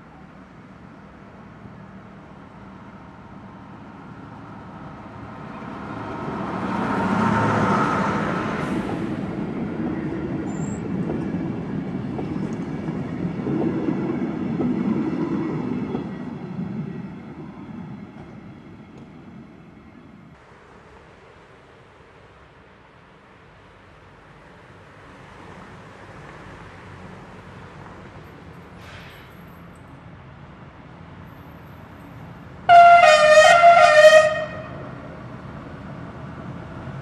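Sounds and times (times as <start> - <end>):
diesel locomotive engine passing: 0.0 - 37.0.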